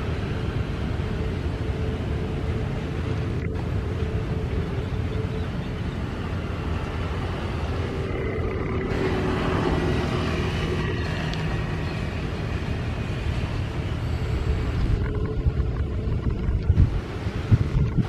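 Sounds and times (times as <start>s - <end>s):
distant jet engines rumbling: 0.0s - 18.0s
faint engine whine: 0.0s - 18.0s.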